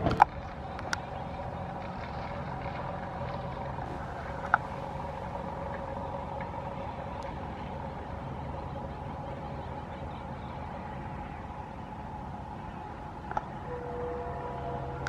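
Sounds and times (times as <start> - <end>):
distant train rumbling: 0.0 - 15.0.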